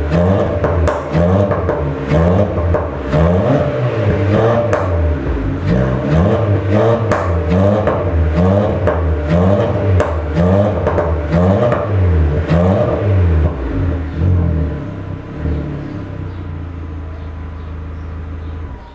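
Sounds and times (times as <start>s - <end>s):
car engine idling: 0.0s - 18.9s
car engine revving: 0.0s - 18.9s
exhaust pops: 0.0s - 18.9s.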